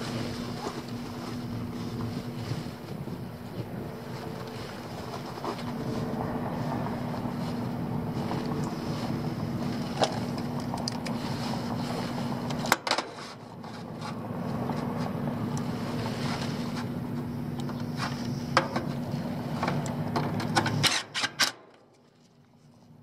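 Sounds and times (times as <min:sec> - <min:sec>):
steady machine hum: 0:00.0 - 0:20.9.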